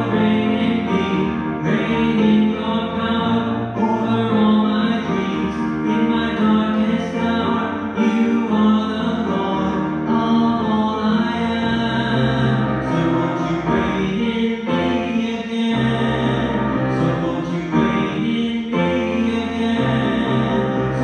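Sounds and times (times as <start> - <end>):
held organ chords: 0.0 - 21.0
hymn singing: 0.0 - 21.0.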